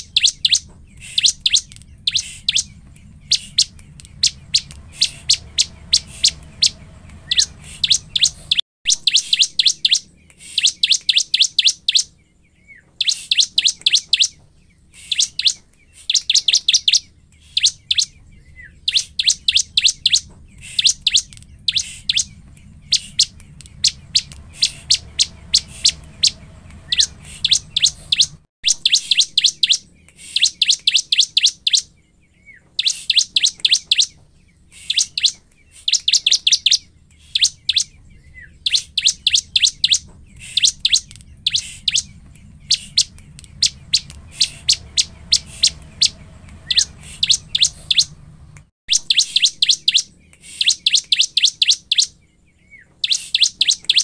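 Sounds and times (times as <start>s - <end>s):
bird sharp high chirps: 0.0s - 54.0s.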